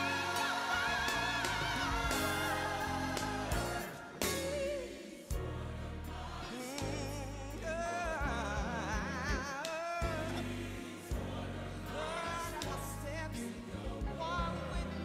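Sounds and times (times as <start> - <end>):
gospel song with singer: 0.0 - 15.0.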